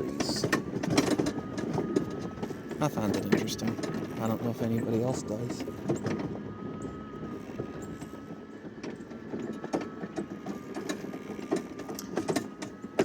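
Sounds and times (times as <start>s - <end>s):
electric mower whine: 0.0s - 13.0s
knocks and rattles: 0.0s - 13.0s.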